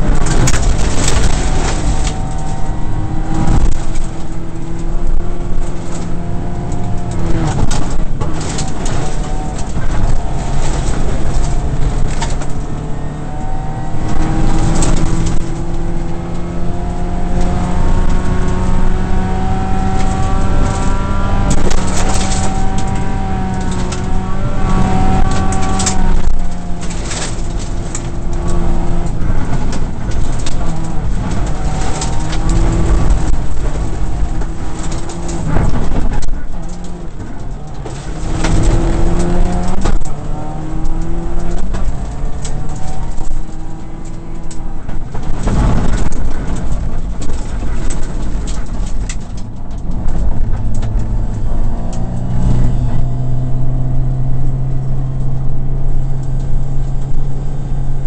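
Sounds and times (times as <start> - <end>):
gravel pinging against car: 0.0 - 58.0
rally car engine revving: 0.0 - 58.0.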